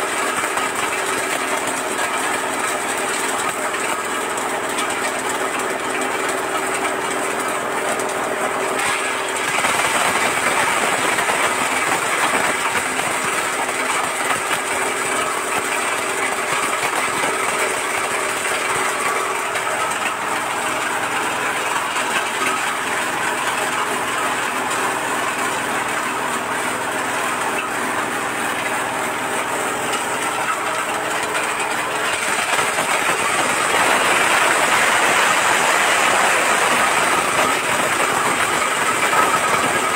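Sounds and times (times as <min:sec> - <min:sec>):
machine motor hum: 0:00.0 - 0:39.9.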